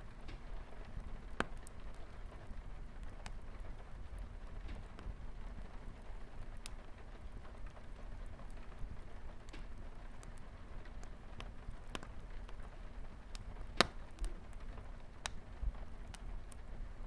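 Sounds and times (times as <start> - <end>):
light rain on a window: 0.0 - 17.0
wood fire crackling: 0.0 - 17.0.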